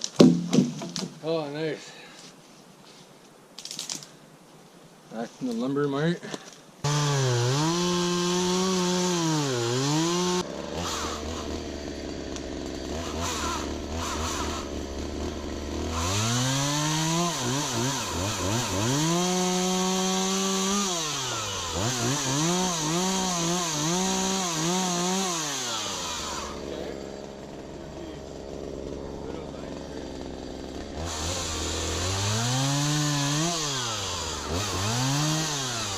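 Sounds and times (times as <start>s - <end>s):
chainsaw engine revving and idling: 6.8s - 35.9s.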